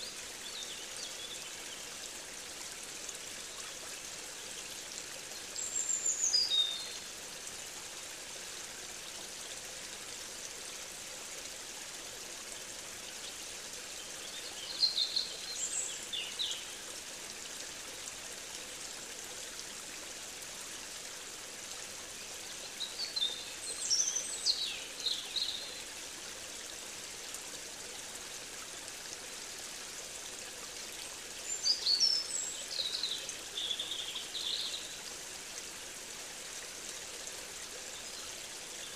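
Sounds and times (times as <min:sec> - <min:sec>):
running water hiss: 0:00.0 - 0:38.9.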